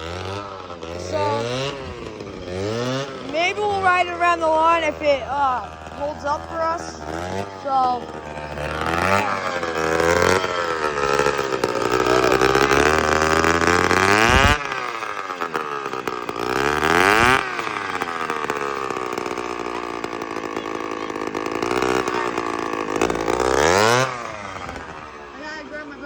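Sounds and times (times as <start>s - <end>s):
loud scooter engine revving: 0.0s - 26.0s.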